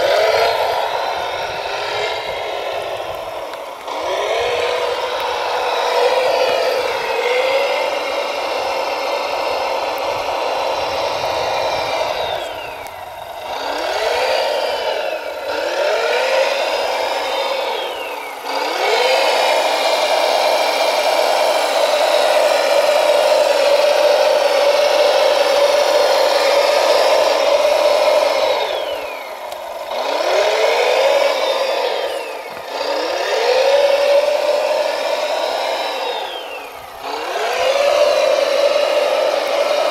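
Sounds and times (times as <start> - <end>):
model wheel loader mechanical whine: 0.0 - 39.9.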